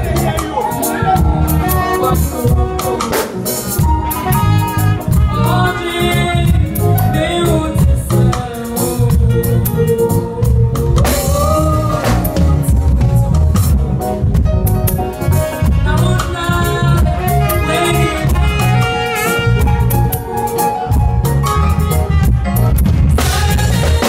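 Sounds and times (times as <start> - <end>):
person singing melody: 0.0 - 21.0
drum kit beat: 0.0 - 24.0
heavy bass line: 0.0 - 24.0.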